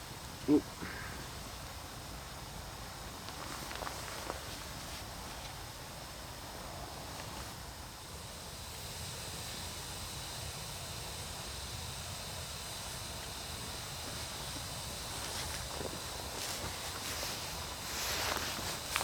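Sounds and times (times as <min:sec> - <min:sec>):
wood fire hissing: 0:00.0 - 0:19.0.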